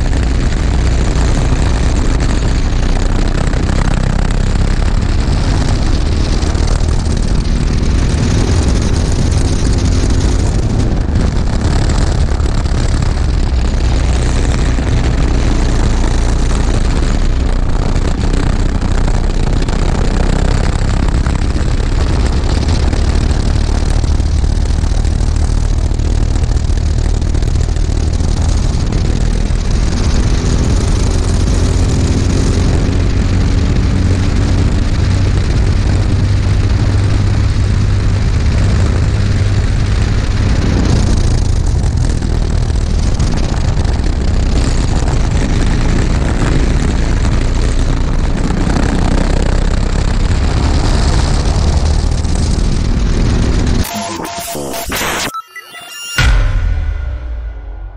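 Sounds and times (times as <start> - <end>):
kart engine revving: 0.0 - 53.9.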